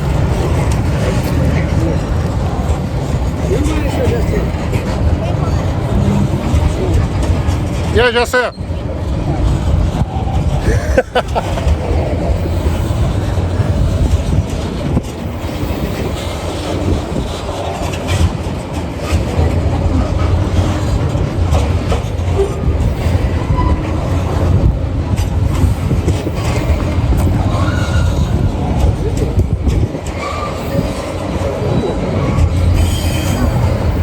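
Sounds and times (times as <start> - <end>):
freight train rumbling: 0.0 - 34.0.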